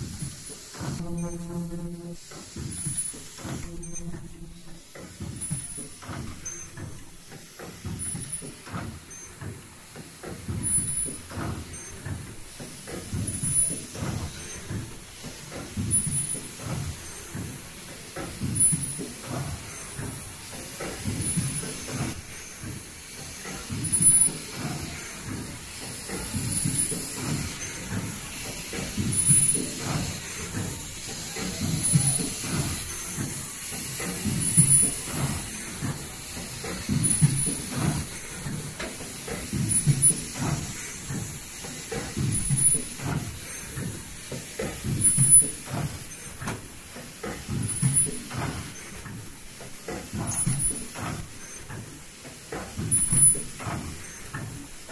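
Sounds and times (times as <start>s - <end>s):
production line machine running: 0.0s - 54.9s.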